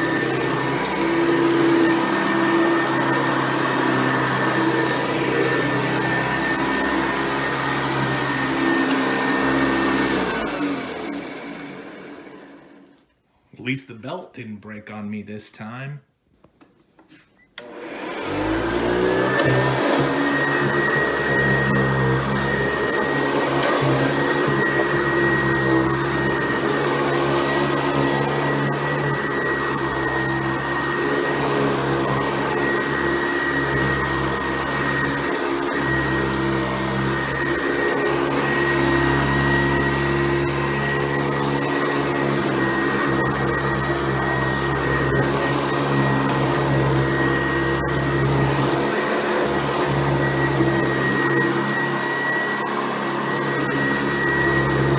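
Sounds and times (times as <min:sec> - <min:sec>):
vacuum cleaner running: 0:00.0 - 0:13.1, 0:17.6 - 0:54.9.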